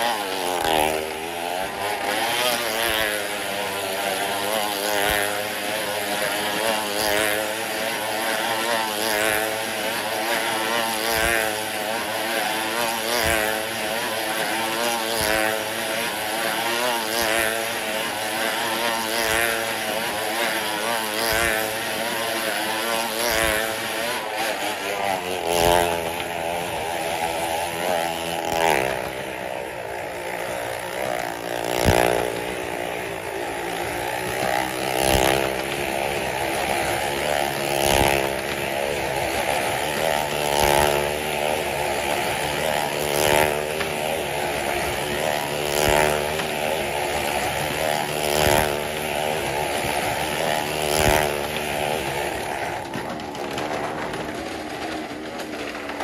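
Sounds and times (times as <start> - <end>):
motorcycle engine running hard: 0.0 - 56.0.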